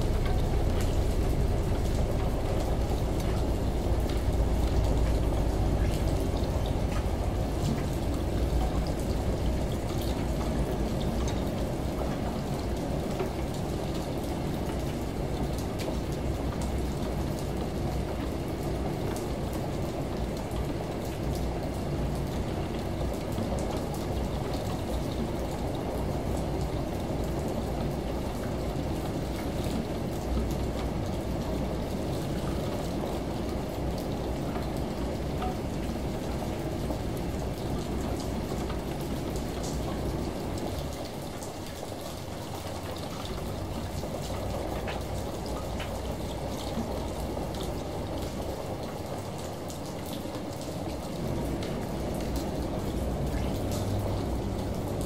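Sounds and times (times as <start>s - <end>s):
rain: 0.0s - 55.0s
shower running: 0.0s - 55.0s
washing machine drone: 0.0s - 55.0s.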